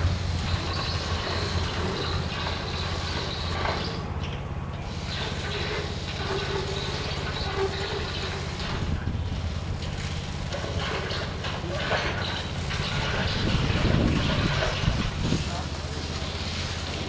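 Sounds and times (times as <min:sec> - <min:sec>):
robot electric motors humming: 0:00.0 - 0:17.0.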